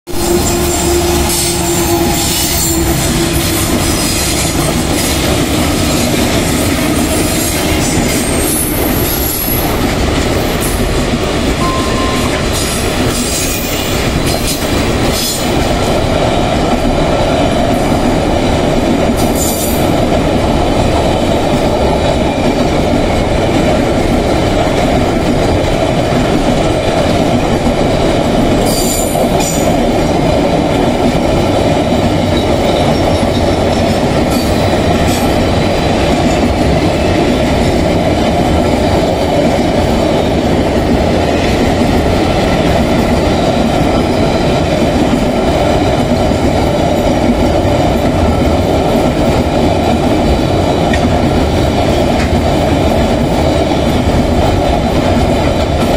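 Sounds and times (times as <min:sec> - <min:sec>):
diesel locomotives running: 0:00.1 - 0:55.9.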